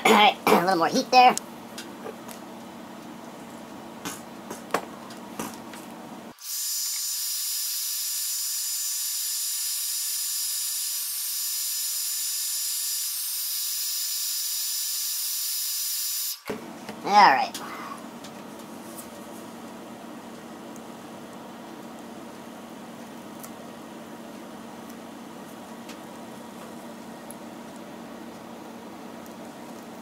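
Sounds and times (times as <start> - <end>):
hot-air blower hissing and whining: 1.3 - 30.0.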